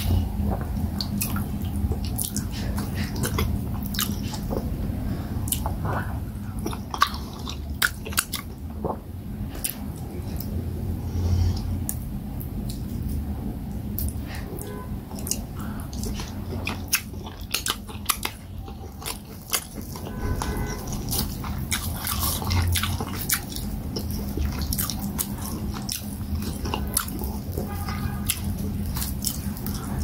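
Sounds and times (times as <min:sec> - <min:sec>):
chewing and lip-smacking: 0:00.0 - 0:10.6, 0:11.5 - 0:30.0.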